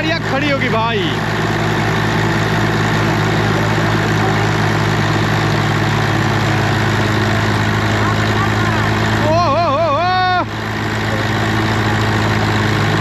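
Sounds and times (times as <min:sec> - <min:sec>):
tractor diesel engines running: 0:00.0 - 0:13.0.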